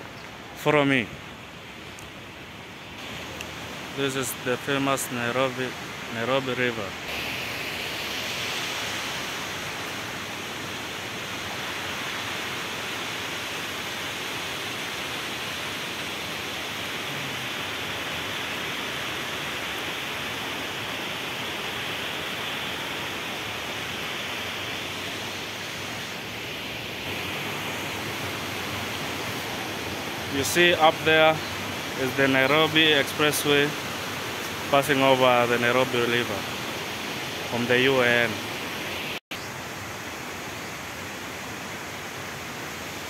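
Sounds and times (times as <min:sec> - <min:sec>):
river water rushing over rocks: 0:01.1 - 0:43.0.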